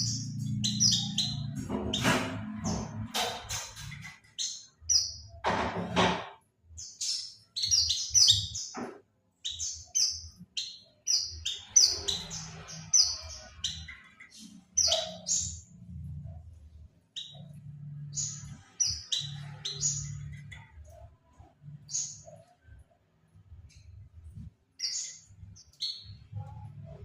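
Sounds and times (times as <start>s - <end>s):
bird chirping song: 0.0s - 27.0s.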